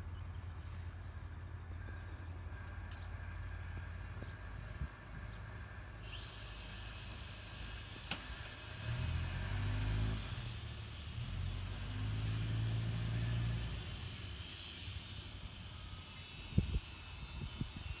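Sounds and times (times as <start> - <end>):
distant turboprop engines droning: 0.0 - 18.0.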